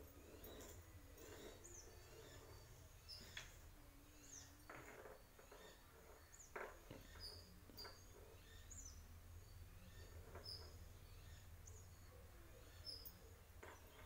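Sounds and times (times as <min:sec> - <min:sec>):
distant high bird chirps: 0:00.0 - 0:14.0.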